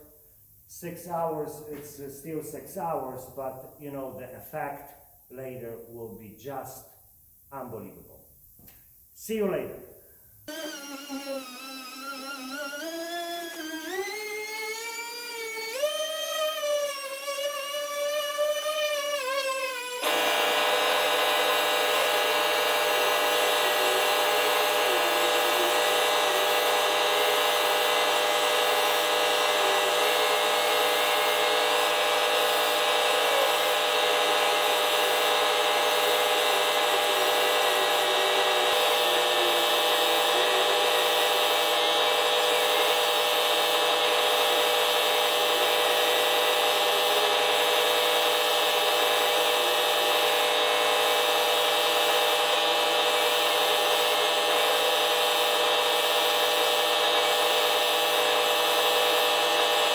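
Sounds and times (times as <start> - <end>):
electric sander whining: 10.5 - 59.9.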